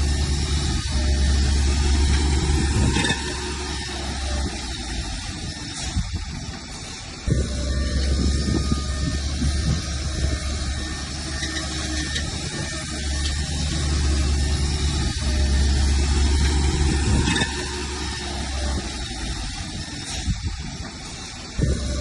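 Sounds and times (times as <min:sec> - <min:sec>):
heavy diesel machinery droning: 0:00.0 - 0:22.0.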